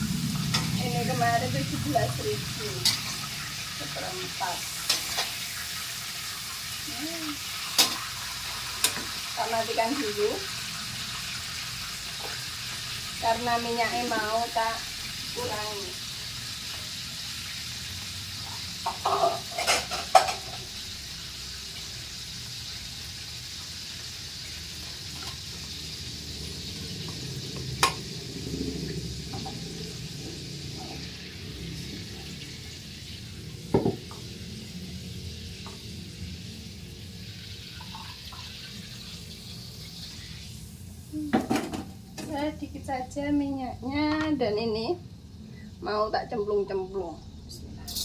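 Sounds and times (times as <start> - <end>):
oil sizzling in a wok: 0.0 - 48.0.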